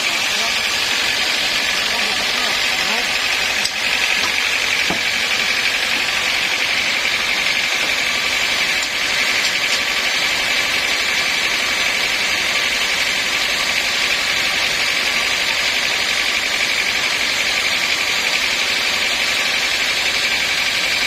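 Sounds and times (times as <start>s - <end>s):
sawmill machinery whining: 0.0s - 21.0s.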